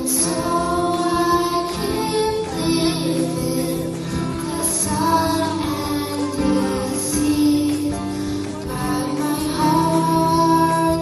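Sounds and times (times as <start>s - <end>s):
strummed acoustic guitar: 0.0s - 11.0s
young female voices singing: 0.0s - 11.0s.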